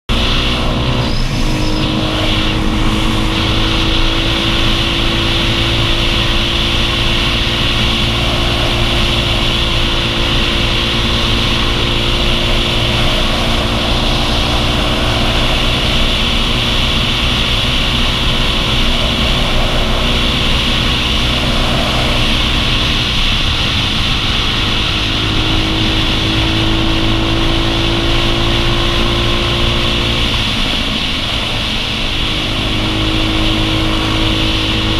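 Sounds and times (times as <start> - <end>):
motorcycle engine cruising: 0.0 - 34.9
wind rushing over microphone: 0.1 - 34.9.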